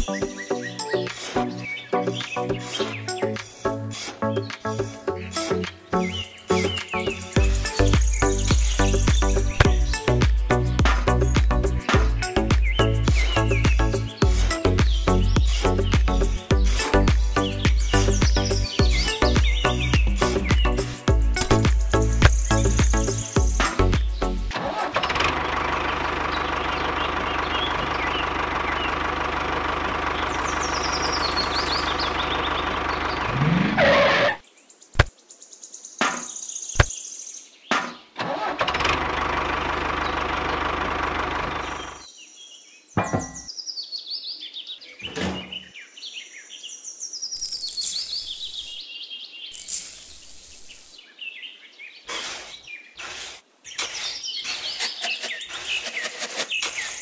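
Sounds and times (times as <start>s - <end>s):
bird chirps: 0.0s - 24.4s, 25.9s - 29.2s, 30.0s - 33.5s, 41.2s - 57.0s.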